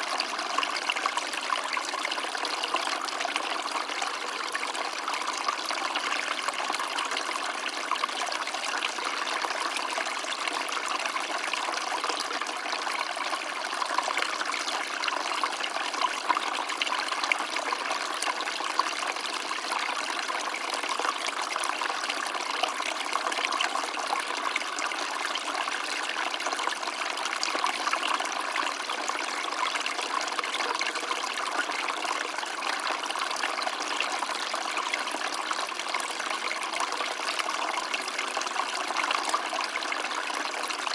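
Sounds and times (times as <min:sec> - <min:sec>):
small stream trickling: 0:00.0 - 0:40.9.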